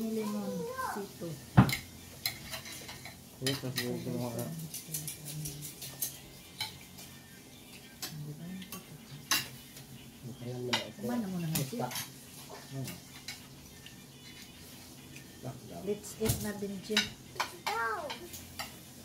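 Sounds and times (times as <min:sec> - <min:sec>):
cutlery clinking on plates: 0:01.6 - 0:10.0, 0:10.7 - 0:15.3, 0:16.2 - 0:18.9.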